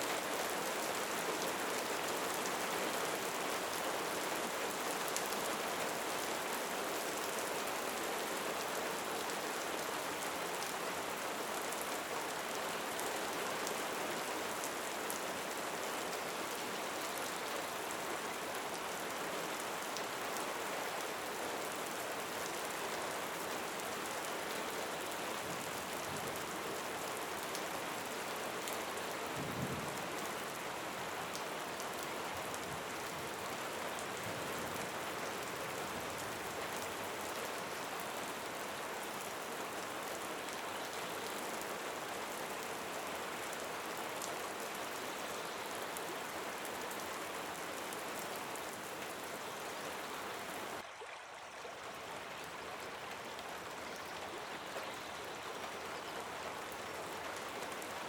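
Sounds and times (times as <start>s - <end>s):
steady rain hiss: 0.0s - 51.0s, 51.7s - 58.0s.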